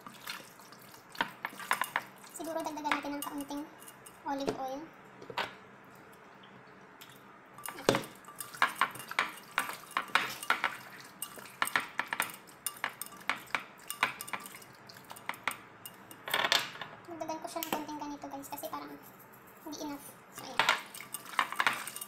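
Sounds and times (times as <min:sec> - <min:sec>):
chicken mixed in container: 0:00.0 - 0:04.4, 0:07.1 - 0:16.2, 0:17.5 - 0:22.0.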